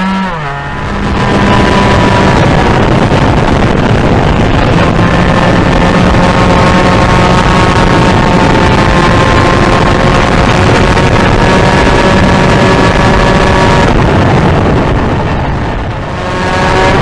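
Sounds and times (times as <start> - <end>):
motorcycle engine revving high: 0.0 - 17.0
wind buffeting microphone: 0.0 - 17.0.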